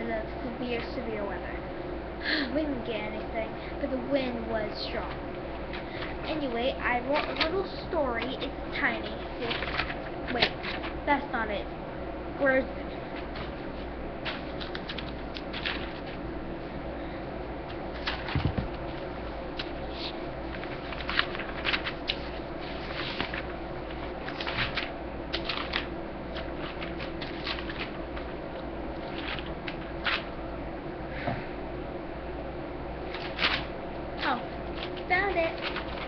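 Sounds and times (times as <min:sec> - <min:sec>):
fan hum: 0:00.0 - 0:36.0.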